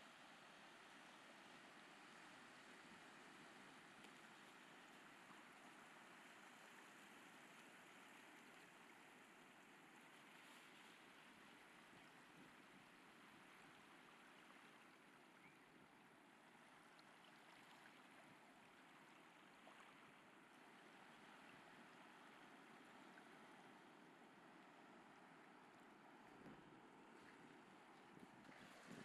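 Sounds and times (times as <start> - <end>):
faint ocean waves on shore: 0.0 - 29.0.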